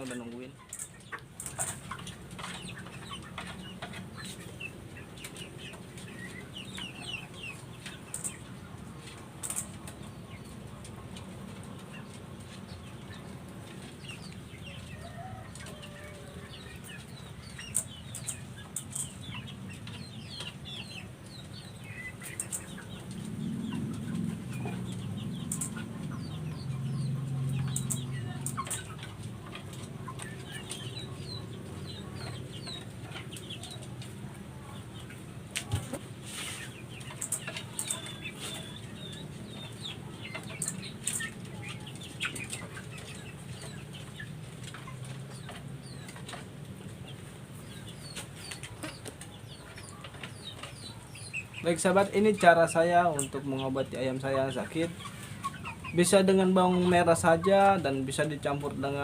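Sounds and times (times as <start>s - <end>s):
chickens clucking and cheeping: 0.0s - 59.0s.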